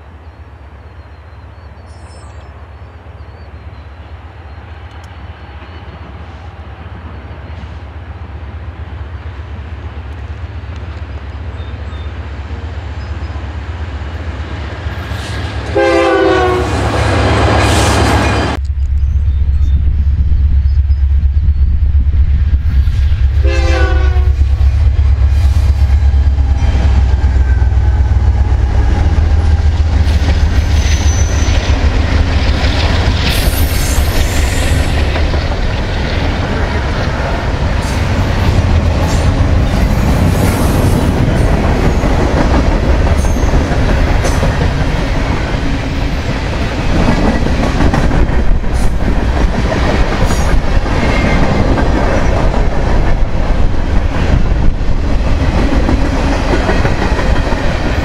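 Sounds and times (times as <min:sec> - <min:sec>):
diesel locomotive engines rumbling: 0:00.0 - 0:58.0.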